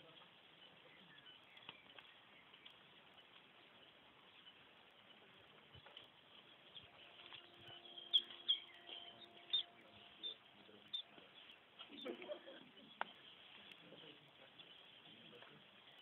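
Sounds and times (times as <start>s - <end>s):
birds chirping: 0.0s - 16.0s
faint outdoor ambience: 0.0s - 16.0s.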